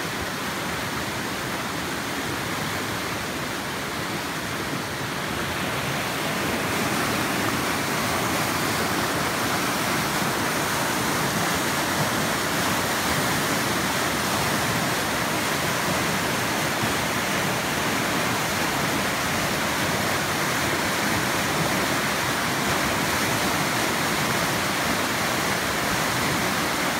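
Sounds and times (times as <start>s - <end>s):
floodwater rushing over rapids: 0.0s - 26.9s.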